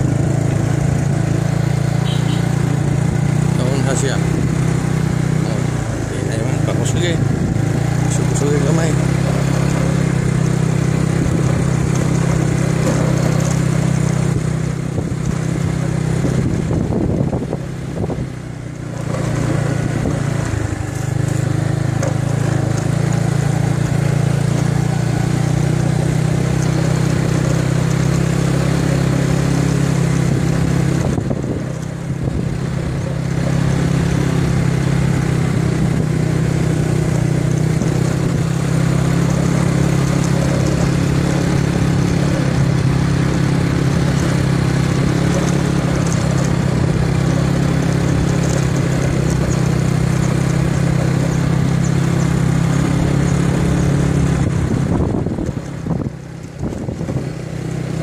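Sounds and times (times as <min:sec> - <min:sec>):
small motorcycle engine running: 0:00.0 - 0:58.0.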